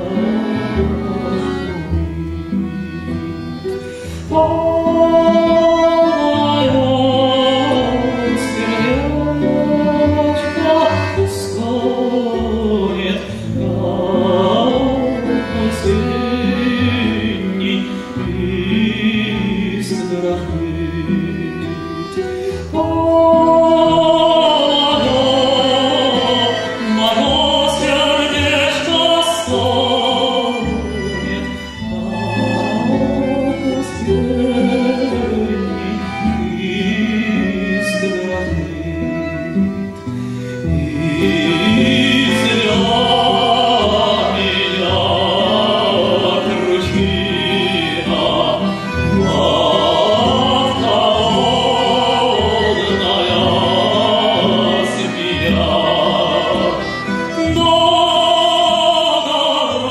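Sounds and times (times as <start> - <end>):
instrumental accompaniment: 0.0 - 59.9
man singing folk song: 0.0 - 59.9.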